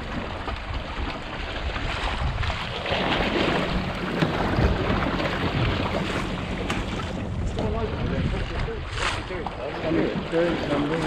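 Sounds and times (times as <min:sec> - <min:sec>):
water rushing along boat hull: 0:00.0 - 0:11.0
wind buffeting microphone: 0:00.0 - 0:11.0.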